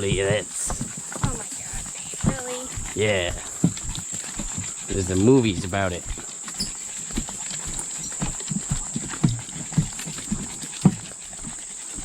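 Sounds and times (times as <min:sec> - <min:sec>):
footsteps on overgrown path: 0:00.0 - 0:12.0.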